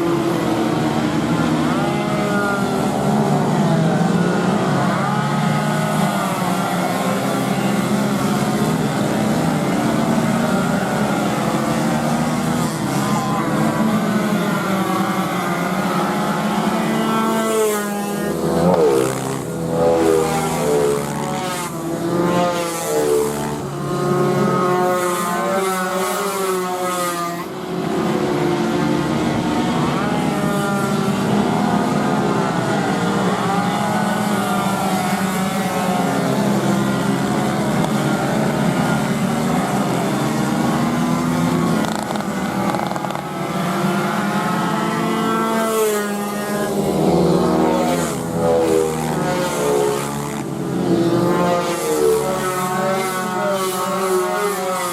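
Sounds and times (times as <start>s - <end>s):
racing motorcycle engines revving: 0.0s - 54.9s.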